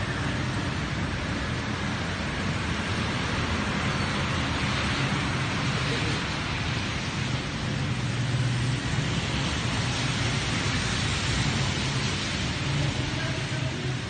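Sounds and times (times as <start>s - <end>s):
rushing floodwater: 0.0s - 14.0s.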